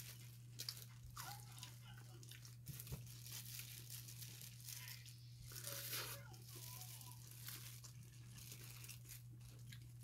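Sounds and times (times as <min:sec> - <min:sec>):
plastic gloves crinkling: 0:00.0 - 0:10.0.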